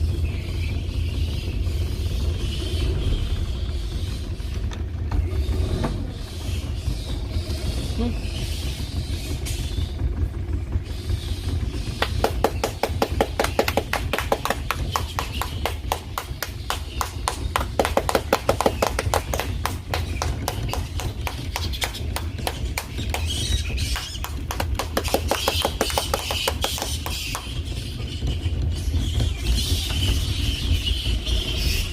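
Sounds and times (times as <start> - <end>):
steady low rumble: 0.0 - 31.9
fruit bats clicking and chirping: 3.8 - 31.9.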